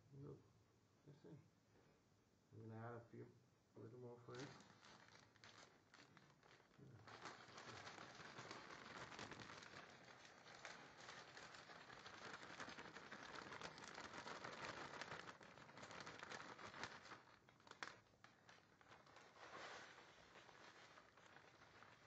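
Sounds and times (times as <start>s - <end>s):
plastic bag crinkling: 4.0s - 22.0s.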